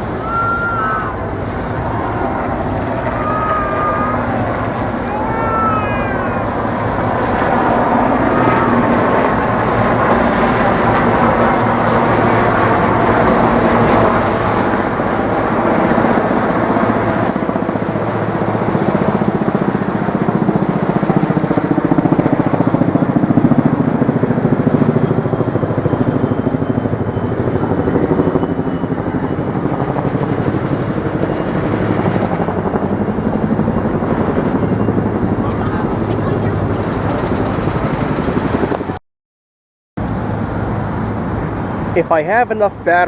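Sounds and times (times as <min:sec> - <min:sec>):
helicopter rotor beating: 0:00.0 - 0:39.0, 0:40.0 - 0:43.0.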